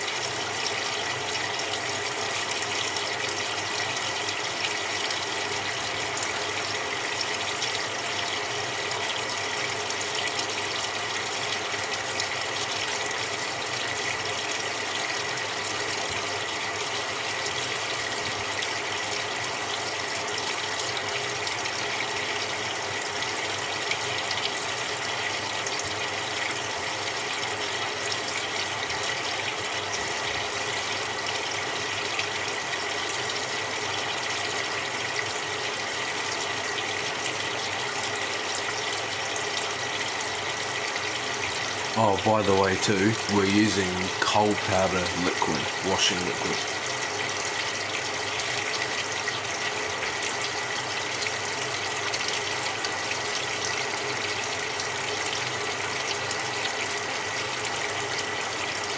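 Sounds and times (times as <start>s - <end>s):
water pouring into tub: 0.0s - 58.9s.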